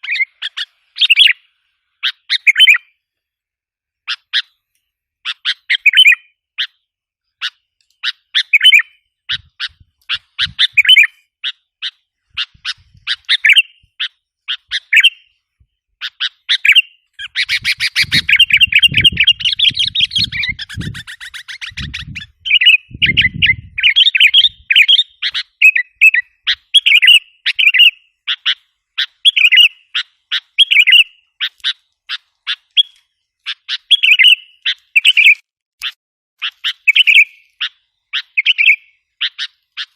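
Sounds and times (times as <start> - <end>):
bird chirping and chattering: 0.0 - 1.4, 2.0 - 3.0, 4.0 - 15.4, 16.0 - 39.9.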